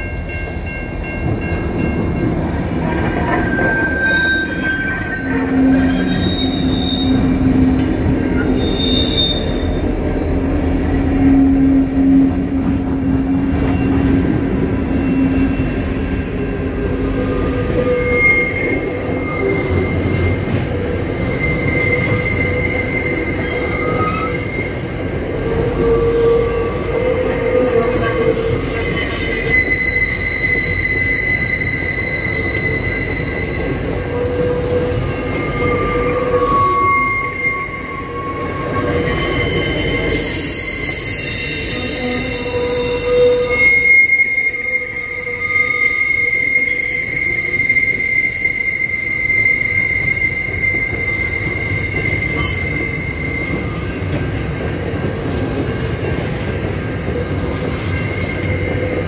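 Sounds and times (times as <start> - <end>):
train wheels rumbling on rails: 0.0 - 59.0
high-pitched wheel squeals: 2.9 - 54.2, 57.2 - 59.0.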